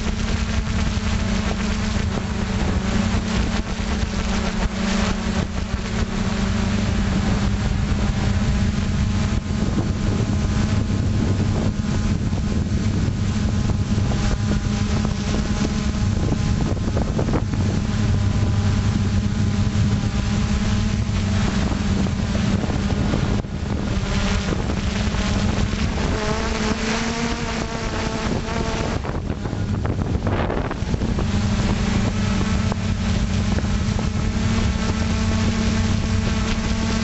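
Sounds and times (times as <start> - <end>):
drone propellers humming: 0.0 - 37.0
wind noise on microphone: 0.0 - 37.0.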